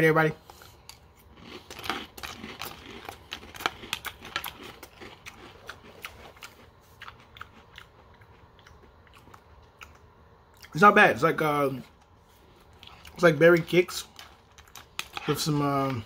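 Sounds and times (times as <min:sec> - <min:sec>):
person chewing crunchy cereal: 0:00.4 - 0:10.8, 0:11.7 - 0:16.0.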